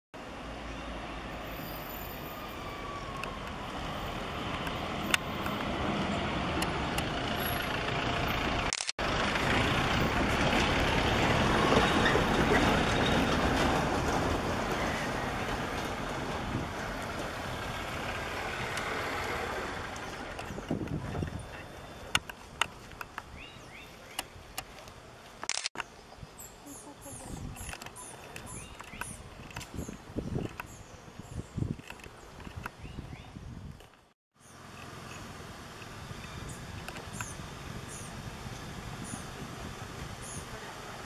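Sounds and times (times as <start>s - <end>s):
road traffic rumbling: 0.2s - 41.0s.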